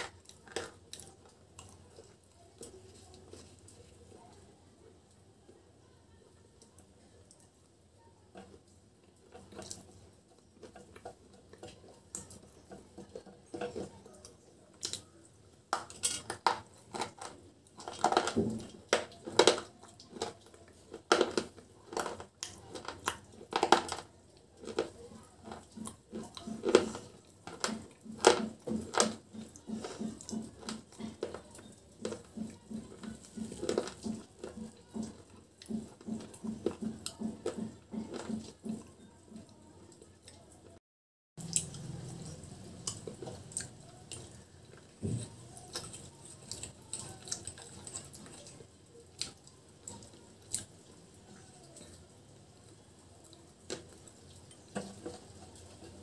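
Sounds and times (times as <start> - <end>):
crunching and chewing chips: 0.0 - 5.3, 8.3 - 40.8, 41.4 - 56.0.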